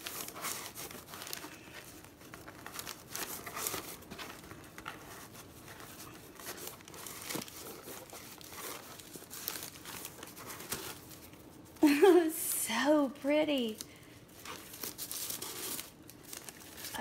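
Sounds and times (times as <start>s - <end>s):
ribbon and wrapping paper rustling: 0.0s - 17.0s.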